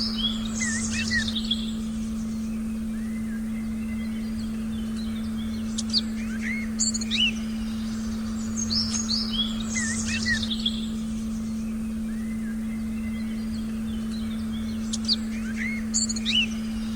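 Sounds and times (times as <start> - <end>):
birds chirping and whistling: 0.0 - 16.9
steady pure tone: 0.0 - 16.9.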